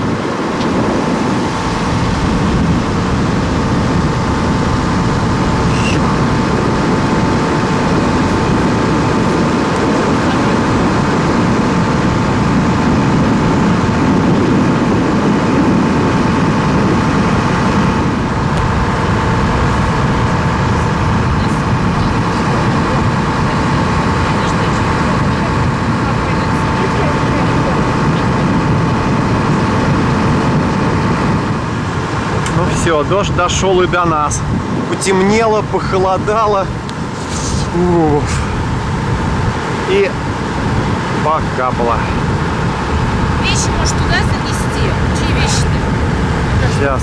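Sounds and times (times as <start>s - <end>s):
constant whine: 0.0s - 47.0s
motor boat engine running: 0.0s - 47.0s
water rushing: 0.0s - 47.0s
wind: 0.0s - 47.0s.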